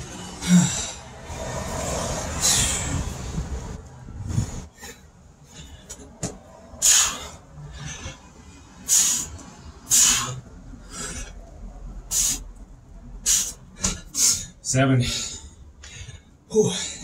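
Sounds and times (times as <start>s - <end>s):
man breathing hard: 0.3s - 12.6s, 13.2s - 17.0s.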